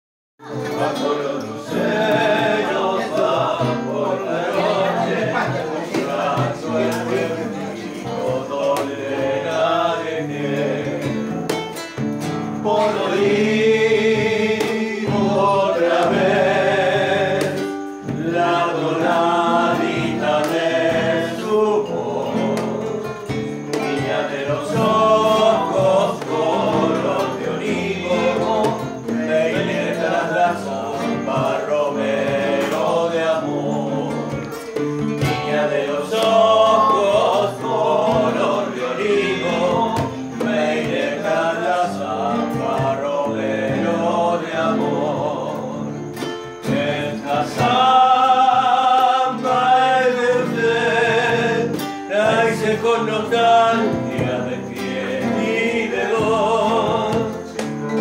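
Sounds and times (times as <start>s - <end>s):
acoustic guitars: 0.4s - 58.0s
group singing: 0.4s - 58.0s.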